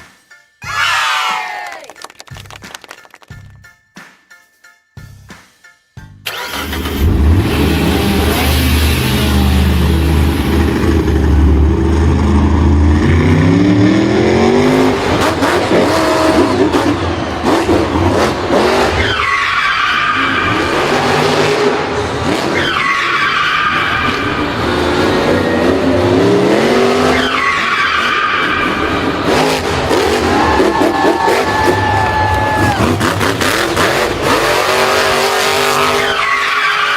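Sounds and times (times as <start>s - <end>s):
racing engines revving: 6.3s - 36.9s.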